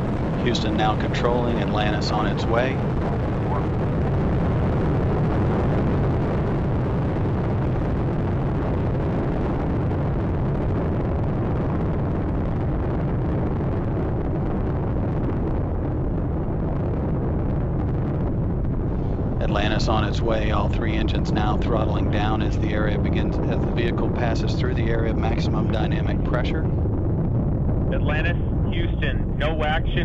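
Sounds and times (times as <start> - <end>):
loud rocket rumble: 0.0 - 30.0.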